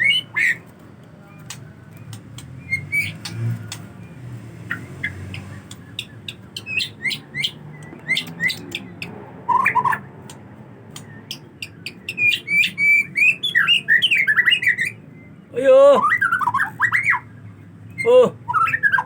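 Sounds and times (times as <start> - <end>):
bird singing chips and whistles: 0.0 - 0.7, 1.3 - 10.0, 11.0 - 15.0, 16.0 - 17.3, 17.9 - 19.0.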